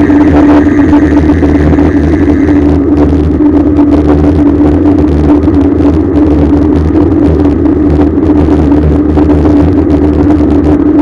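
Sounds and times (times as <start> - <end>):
bicycle rolling noise: 0.0 - 11.0
steady hum: 0.0 - 11.0
wind rumble: 0.0 - 11.0.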